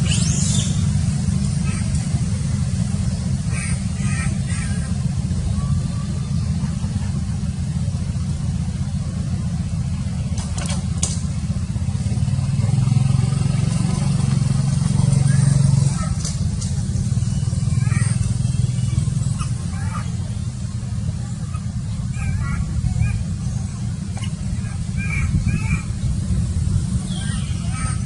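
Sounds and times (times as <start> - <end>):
motor vehicle engine rumble: 0.0 - 28.0.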